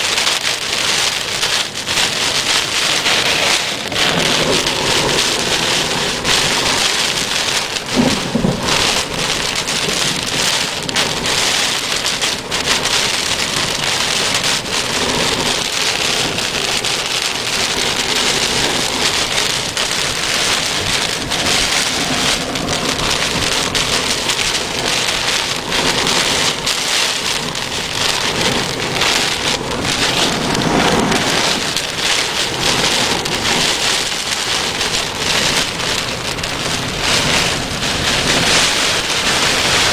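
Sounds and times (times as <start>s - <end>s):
heavy rain hissing: 0.0s - 39.9s
raindrop hits close by: 0.0s - 39.9s.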